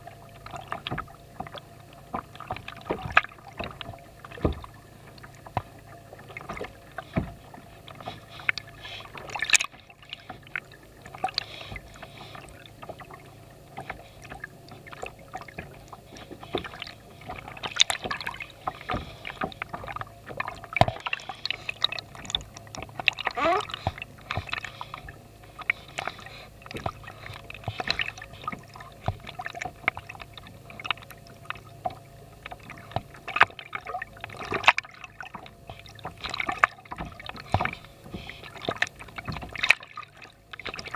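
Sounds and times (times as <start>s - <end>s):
steady low hum: 0.0s - 40.9s
water gurgling and sloshing: 0.0s - 40.9s.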